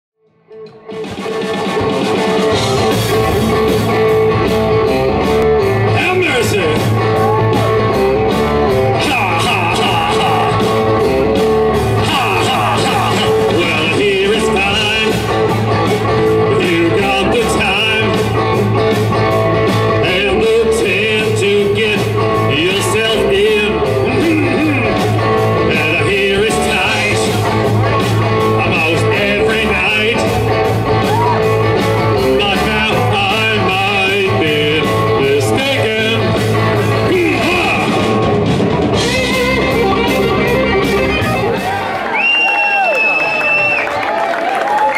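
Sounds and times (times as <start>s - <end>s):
electric guitar lead: 0.2s - 44.9s
live blues rock band: 0.4s - 44.9s.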